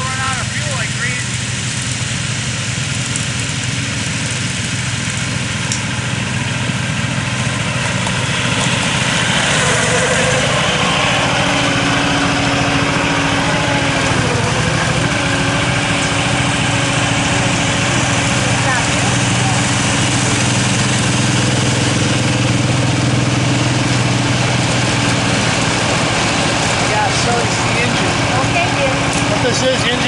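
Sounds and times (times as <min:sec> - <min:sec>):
small locomotive engine running: 0:00.0 - 0:30.0.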